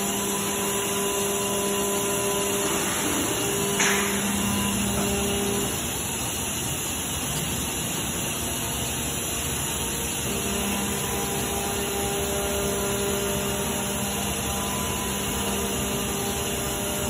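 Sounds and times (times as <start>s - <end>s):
cnc router drone: 0.0s - 17.0s
machine hum: 0.0s - 17.0s.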